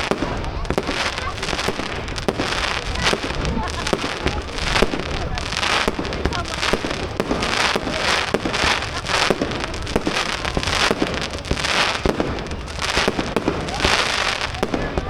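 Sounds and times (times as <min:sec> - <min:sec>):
fireworks bangs and pops: 0:00.0 - 0:15.0
hissing crackle: 0:00.0 - 0:15.0.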